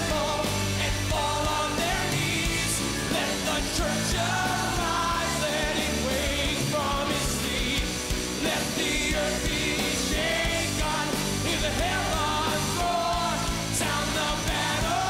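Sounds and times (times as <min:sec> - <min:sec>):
full band playing: 0:00.0 - 0:15.0
person singing worship song: 0:00.0 - 0:15.0
sustained bass notes: 0:00.0 - 0:15.0.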